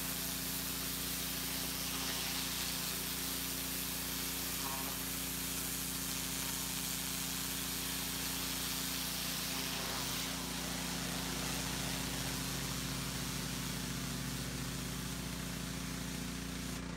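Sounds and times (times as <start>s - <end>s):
water jet spraying: 0.0s - 16.8s
pressure washer motor drone: 0.0s - 16.9s.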